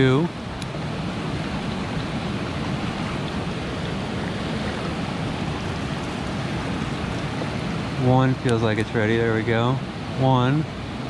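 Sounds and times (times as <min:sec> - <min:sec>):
whitewater river rushing over rapids: 0:00.0 - 0:11.0.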